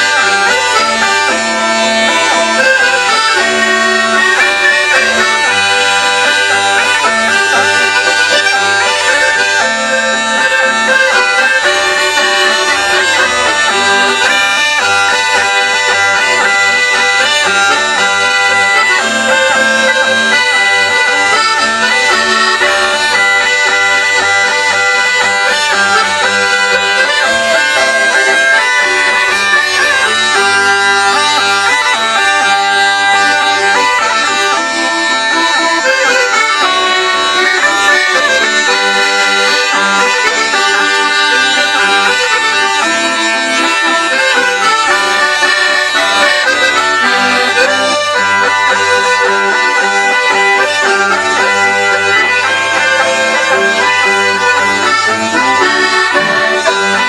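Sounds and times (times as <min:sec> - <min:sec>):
bagpipe drone: 0:00.0 - 0:57.0
button accordion melody: 0:00.0 - 0:57.0
cane pipes playing: 0:00.0 - 0:57.0.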